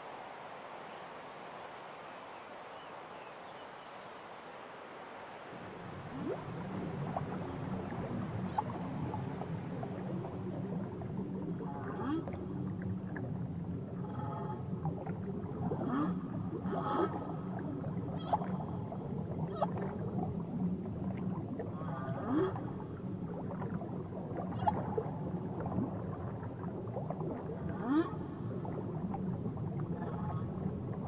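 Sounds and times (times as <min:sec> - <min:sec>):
low hum of water: 0:00.0 - 0:31.0
whale calls underwater: 0:06.1 - 0:31.0.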